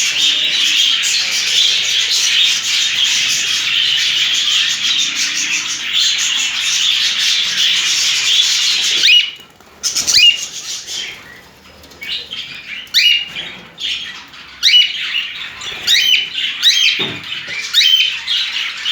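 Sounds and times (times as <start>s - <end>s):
budgerigars bathing rustling: 0.0s - 18.9s.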